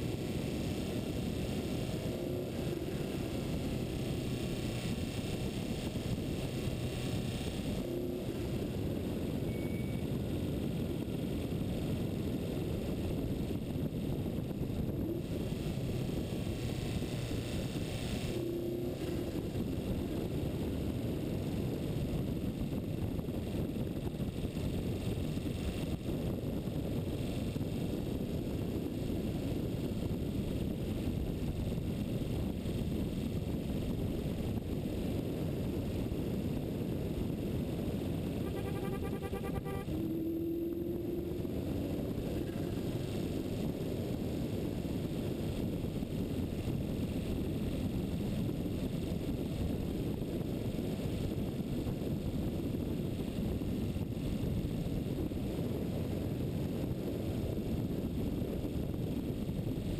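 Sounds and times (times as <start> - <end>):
wind buffeting microphone: 0.0 - 39.2, 39.8 - 59.9.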